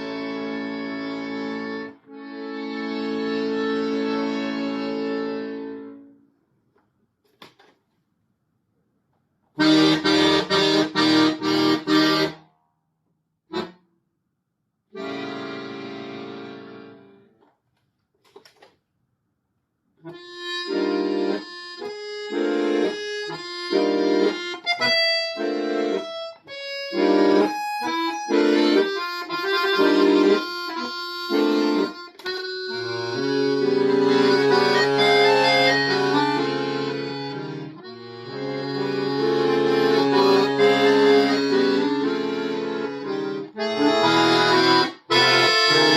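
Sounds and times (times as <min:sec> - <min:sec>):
solo accordion: 0:00.0 - 0:06.3, 0:09.6 - 0:12.5, 0:13.5 - 0:13.8, 0:14.9 - 0:17.3, 0:20.0 - 0:45.9.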